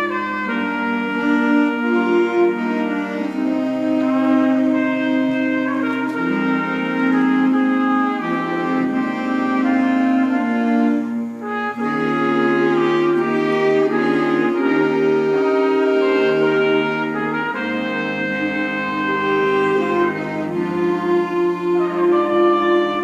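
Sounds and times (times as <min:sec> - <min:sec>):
wind band playing: 0:00.0 - 0:23.0.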